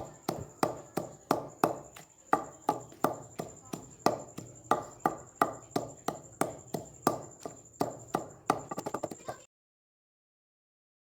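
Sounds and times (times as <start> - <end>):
pestle pounding in mortar: 0.0 - 9.5.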